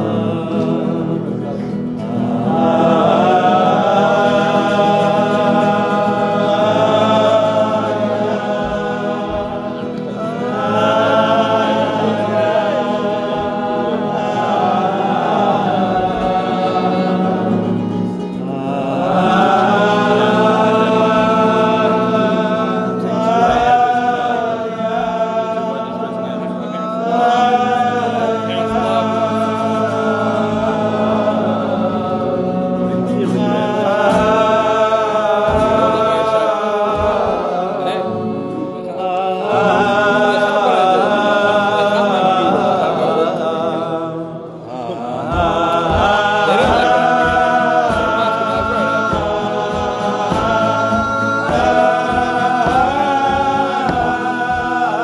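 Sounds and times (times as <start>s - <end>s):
group singing melody: 0.0s - 55.0s.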